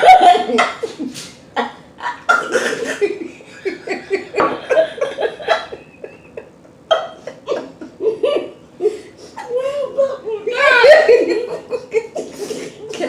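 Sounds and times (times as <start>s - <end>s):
women laughing and giggling: 0.0s - 13.0s.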